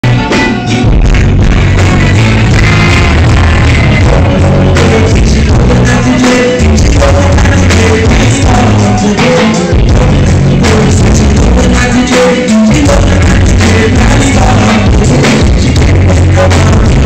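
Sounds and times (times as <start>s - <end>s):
live reggae band playing: 0.0s - 17.0s
person singing: 0.0s - 17.0s.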